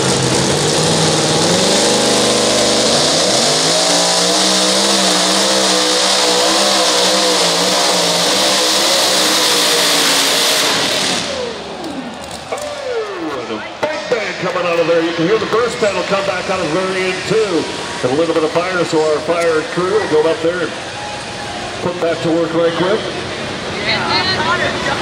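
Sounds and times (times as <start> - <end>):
truck engine at full throttle: 0.0 - 25.0.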